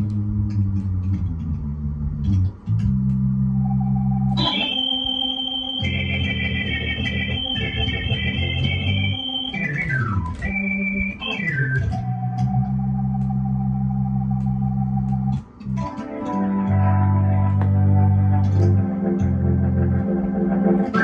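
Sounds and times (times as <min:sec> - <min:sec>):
gospel organ keyboard playing: 0:00.0 - 0:21.0.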